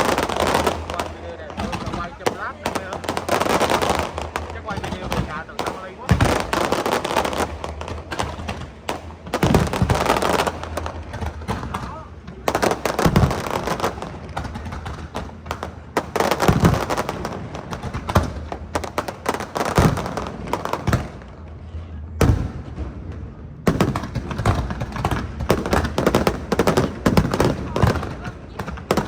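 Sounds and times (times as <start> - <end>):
fireworks booming and crackling: 0.0 - 29.0
sharp loud fireworks bangs: 0.0 - 29.0.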